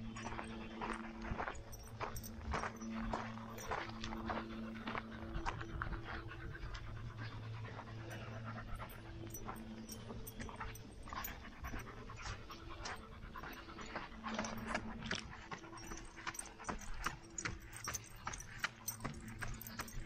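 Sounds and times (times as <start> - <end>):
footsteps on trail: 0.0 - 20.0.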